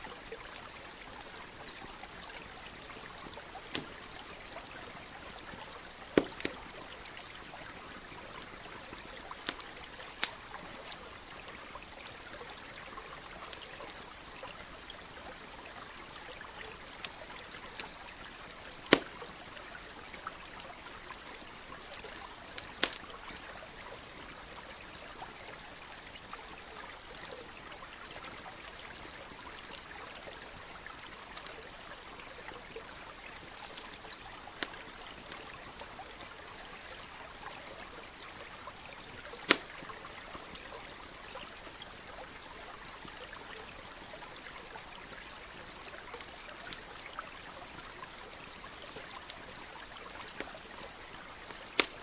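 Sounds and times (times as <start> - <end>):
campfire crackling and popping: 0.0 - 52.0
stream trickling: 0.0 - 52.0.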